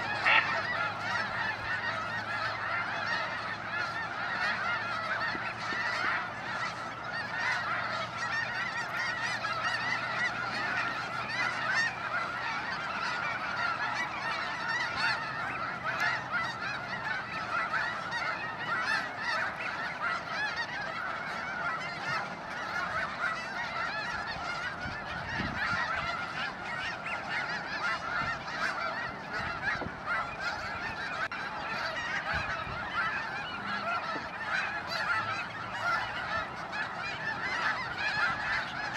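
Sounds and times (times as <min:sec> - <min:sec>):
flock of geese honking: 0:00.0 - 0:38.9.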